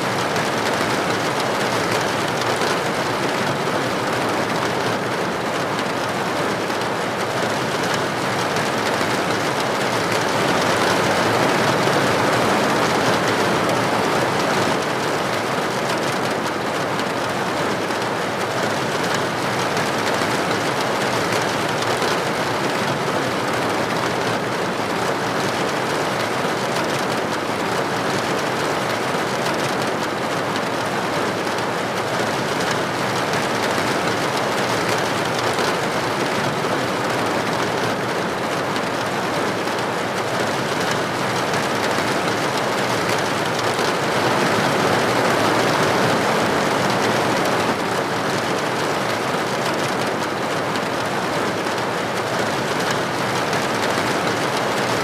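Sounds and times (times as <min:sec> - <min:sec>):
rain on a window: 0:00.0 - 0:55.0.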